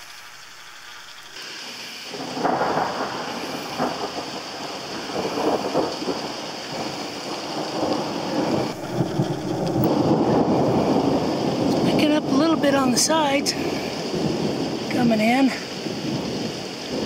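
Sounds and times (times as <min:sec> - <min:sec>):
steady rain: 0:00.0 - 0:17.0
thunder rolling: 0:02.1 - 0:17.0.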